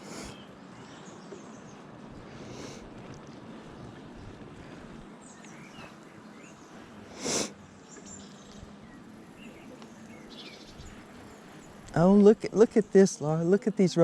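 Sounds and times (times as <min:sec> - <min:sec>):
small birds chirping: 0:00.0 - 0:14.0
wind and bicycle riding noise: 0:00.0 - 0:14.0.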